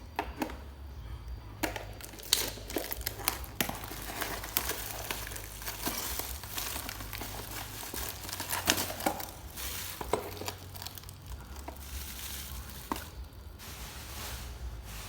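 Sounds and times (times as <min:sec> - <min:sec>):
packaging crinkling: 0:01.6 - 0:15.0.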